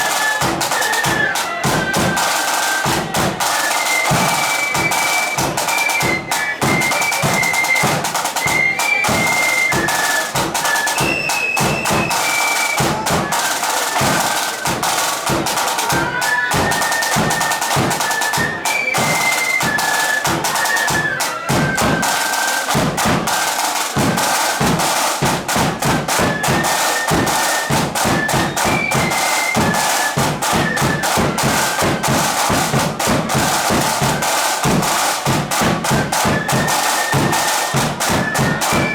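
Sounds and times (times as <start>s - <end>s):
flute band playing a march: 0.0s - 38.9s
snare and bass drums: 0.0s - 38.9s.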